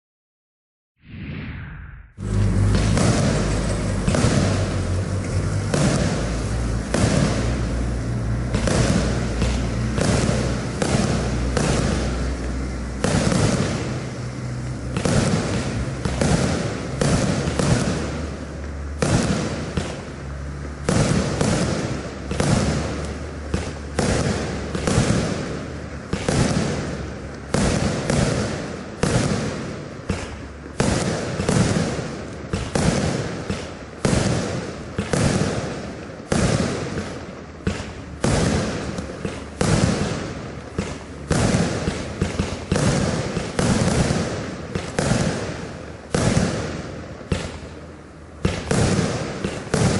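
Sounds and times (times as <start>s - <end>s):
firework shots bursting: 2.2s - 49.9s.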